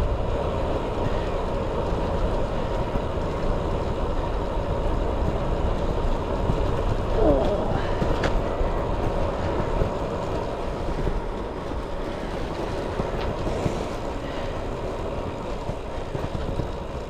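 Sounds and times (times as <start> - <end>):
tyre and road rumble: 0.0 - 17.0.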